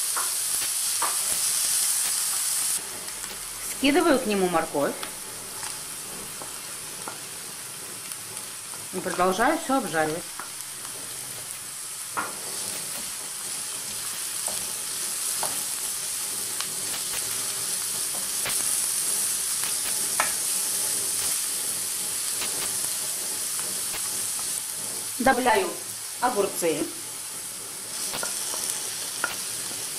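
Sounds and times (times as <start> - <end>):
vegetables sizzling in oil: 0.0 - 29.9.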